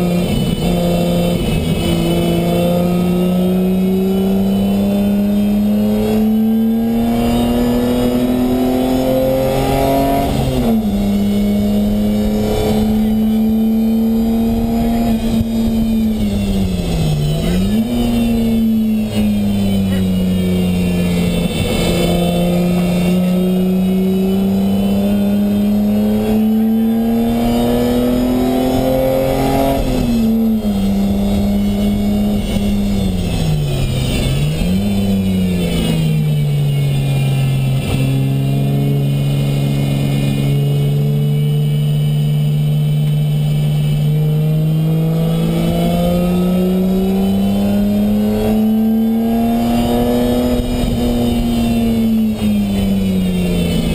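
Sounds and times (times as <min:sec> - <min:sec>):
car engine revving from inside cabin: 0:00.0 - 0:33.4, 0:36.7 - 0:52.4.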